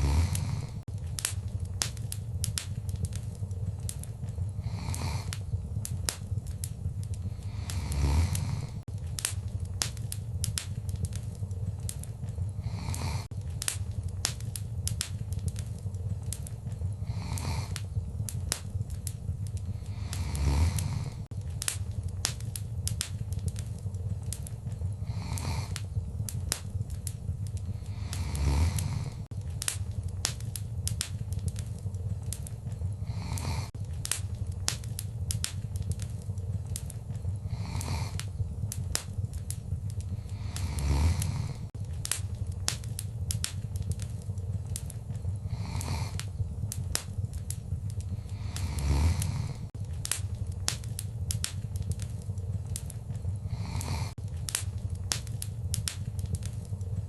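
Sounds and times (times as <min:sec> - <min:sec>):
low rumble of flames: 0:00.0 - 0:57.0
soft hissing: 0:00.0 - 0:57.0
wood fire crackling and popping: 0:00.0 - 0:57.0.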